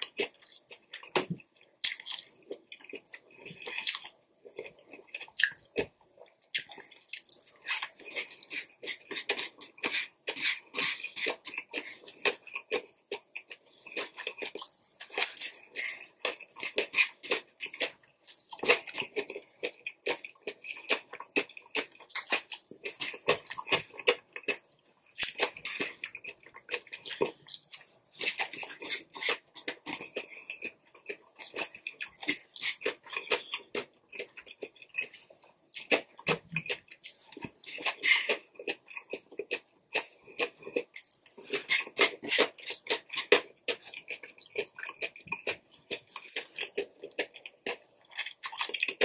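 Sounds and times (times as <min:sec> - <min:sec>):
chewing noodles: 0:00.0 - 0:49.0.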